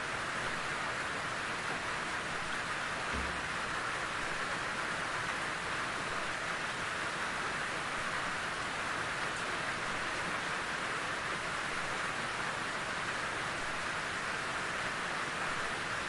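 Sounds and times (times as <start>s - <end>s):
steady rain in a forest: 0.0s - 16.0s.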